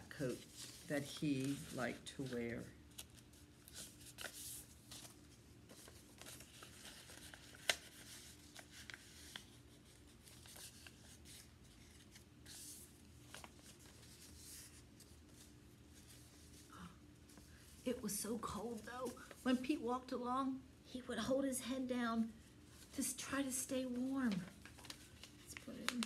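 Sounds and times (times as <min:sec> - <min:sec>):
paper rustling and creasing: 0:00.0 - 0:19.7, 0:22.7 - 0:26.0.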